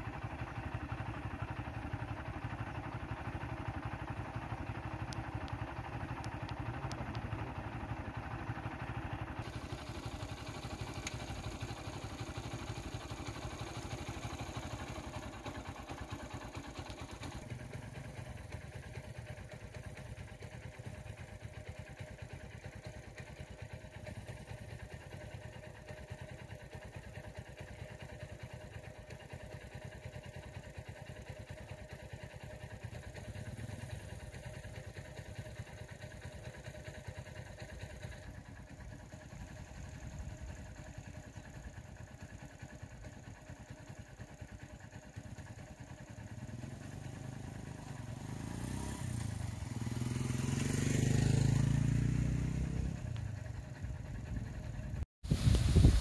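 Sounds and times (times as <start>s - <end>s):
small motorcycle engine idling: 0.0s - 56.0s.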